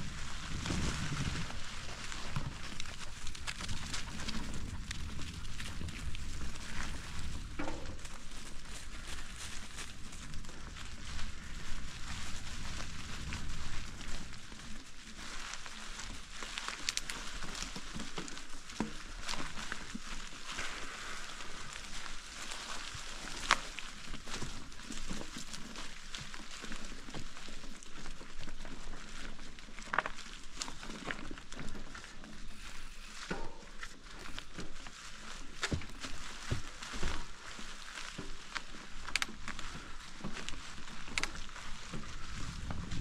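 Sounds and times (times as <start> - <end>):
bicycle tyres on dry leaves: 0.0 - 43.0.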